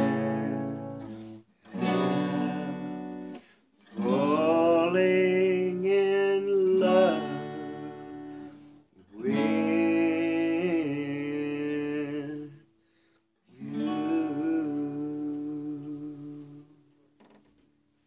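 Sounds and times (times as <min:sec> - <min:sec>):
man singing long notes: 0:00.0 - 0:03.3, 0:03.9 - 0:08.3, 0:09.1 - 0:12.6, 0:13.6 - 0:16.8
acoustic guitar: 0:00.0 - 0:18.0.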